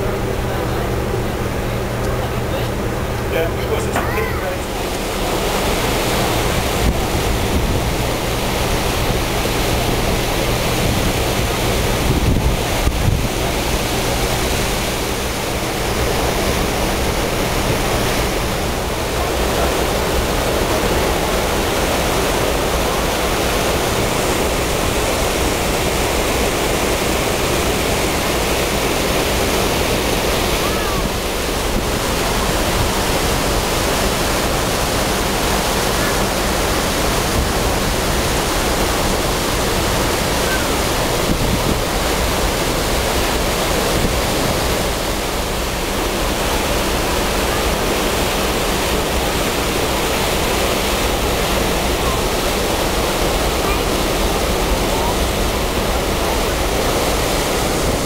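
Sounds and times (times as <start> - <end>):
sea water rushing: 0.0 - 58.0.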